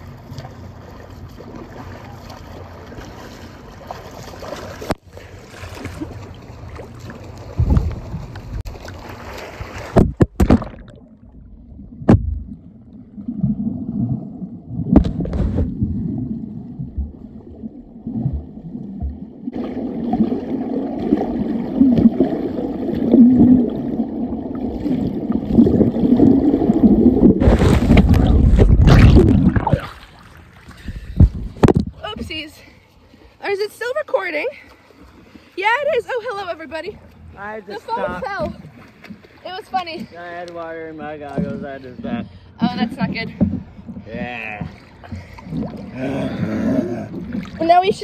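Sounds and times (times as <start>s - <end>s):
muffled underwater splashing: 0.0s - 40.4s, 41.0s - 48.0s.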